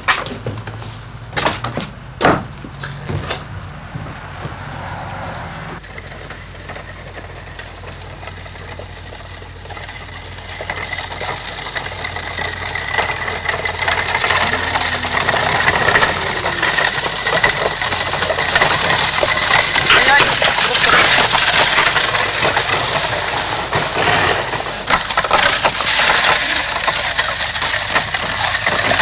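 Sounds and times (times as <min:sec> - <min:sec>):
cart wheels clattering: 0:00.0 - 0:29.0
horse hooves clattering: 0:00.0 - 0:29.0.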